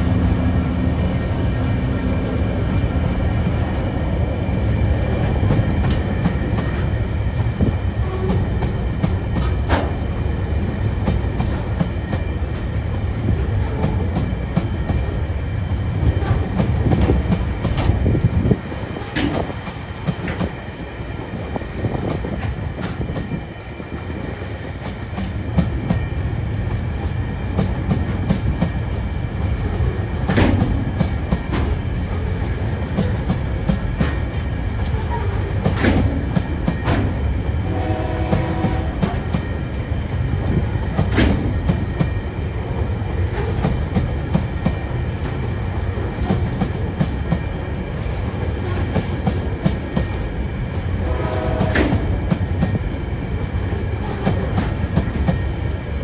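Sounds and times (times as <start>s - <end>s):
train wheels rumbling on rail: 0.0s - 56.0s
train clickety-clack: 1.5s - 56.0s.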